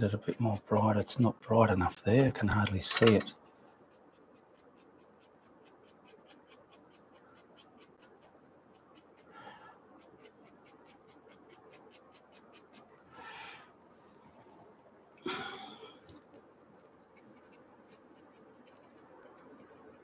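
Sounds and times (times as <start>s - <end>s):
brush scratching on canvas: 0.0s - 13.1s, 16.1s - 20.0s.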